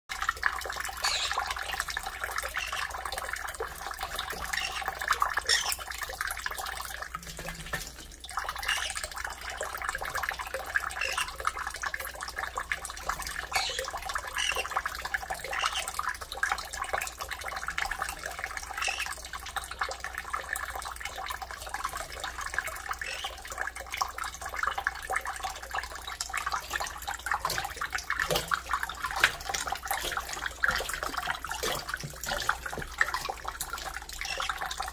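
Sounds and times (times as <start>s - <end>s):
tap water splashing into bowl: 0.1s - 34.9s.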